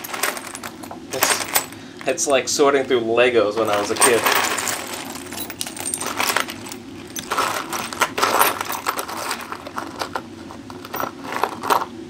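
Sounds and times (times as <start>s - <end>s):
metal hardware clinking and rattling: 0.0s - 2.4s, 3.6s - 11.9s.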